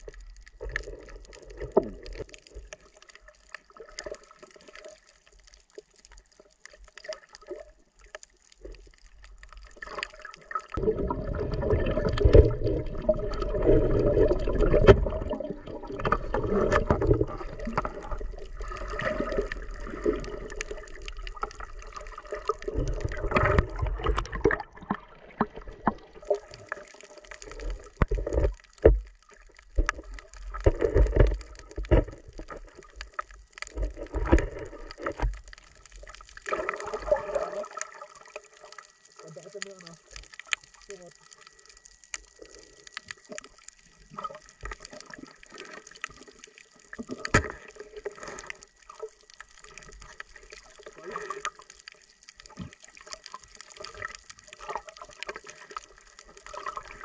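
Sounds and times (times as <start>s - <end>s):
underwater rushing and gurgling: 0.0s - 57.0s.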